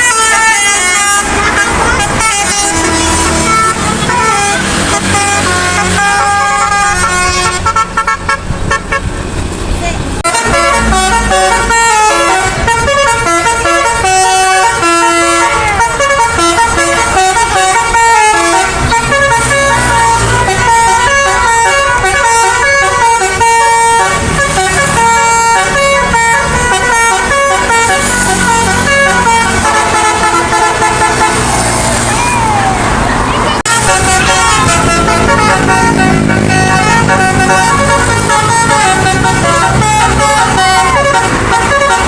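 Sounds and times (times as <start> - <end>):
musical air horn tune: 0.0 - 9.2, 10.2 - 32.7, 33.7 - 42.0
low engine rumble: 0.0 - 42.0.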